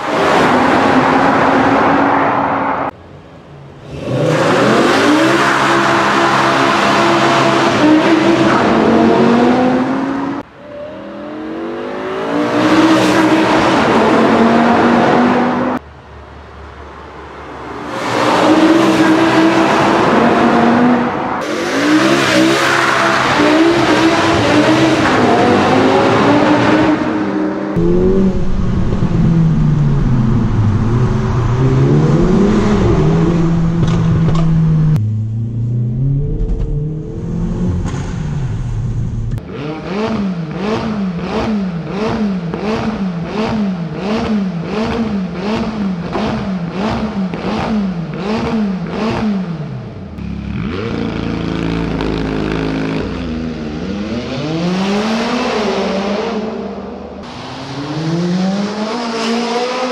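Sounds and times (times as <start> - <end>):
car engine revving in tunnel: 0.0 - 59.9.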